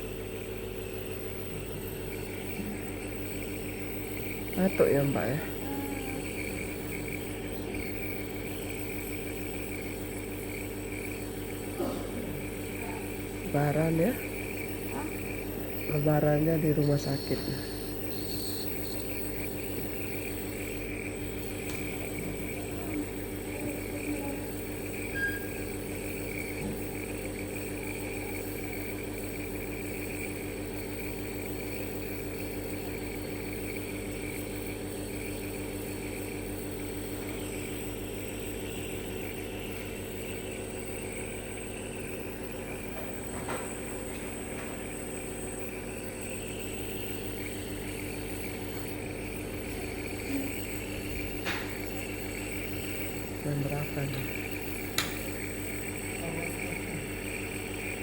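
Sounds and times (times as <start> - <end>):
nebulizer compressor humming: 0.0 - 58.0.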